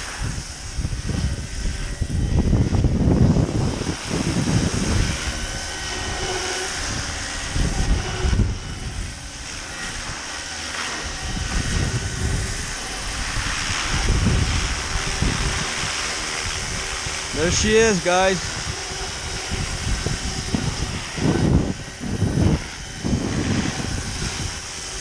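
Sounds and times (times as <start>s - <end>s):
model helicopter high whine: 0.0s - 25.0s
wind rumbling on microphone: 0.0s - 25.0s.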